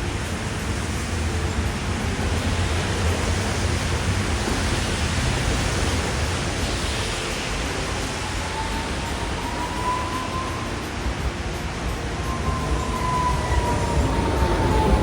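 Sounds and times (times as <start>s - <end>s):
rain hissing: 0.0s - 15.0s
rising whine: 0.0s - 15.0s
tyres on wet street: 0.0s - 15.0s.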